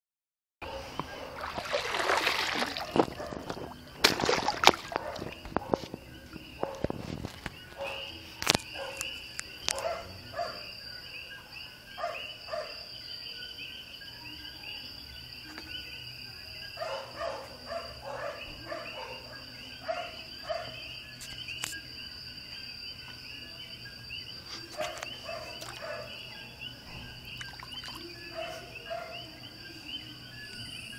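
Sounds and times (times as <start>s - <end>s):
insects chirping fast: 0.6s - 30.9s
insects trilling: 0.6s - 30.9s
lower insect calls: 0.6s - 30.9s.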